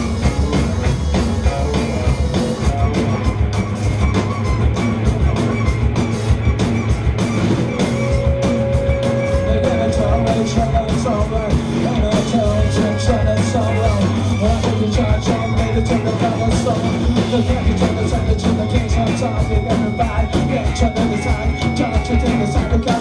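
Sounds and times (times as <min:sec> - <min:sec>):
live rock band playing: 0:00.0 - 0:23.0
wavering guitar melody: 0:00.0 - 0:23.0.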